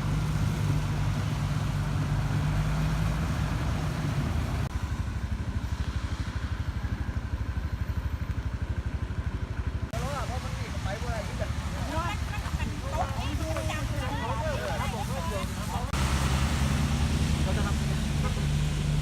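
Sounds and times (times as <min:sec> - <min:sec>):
engine hum: 0:00.0 - 0:19.0
fast-pulsing engine rumble: 0:00.0 - 0:19.0.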